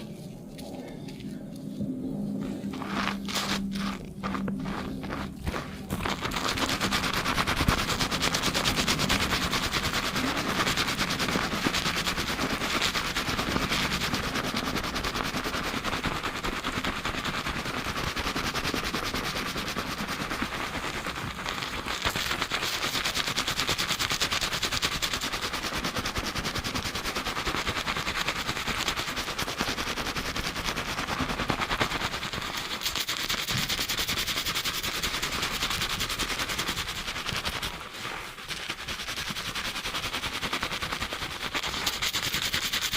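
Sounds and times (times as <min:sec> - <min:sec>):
fingers scrubbing lathered hair: 0:01.6 - 0:42.9.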